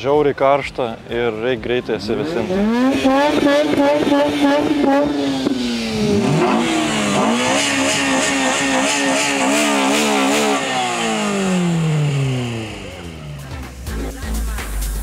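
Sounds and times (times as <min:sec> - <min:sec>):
car engine revving: 0:01.9 - 0:14.3.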